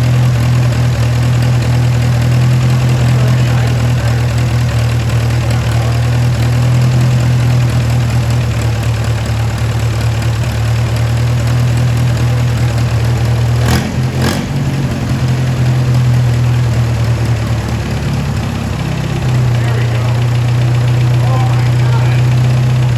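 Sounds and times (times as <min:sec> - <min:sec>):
tractor engine idling: 0:00.0 - 0:22.9.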